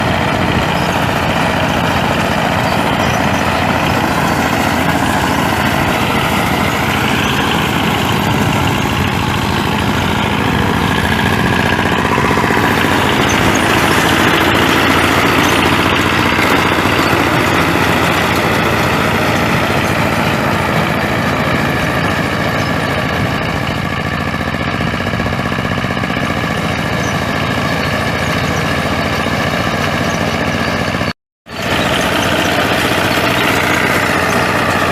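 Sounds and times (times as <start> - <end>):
harvester engine chugging: 0.0 - 34.9.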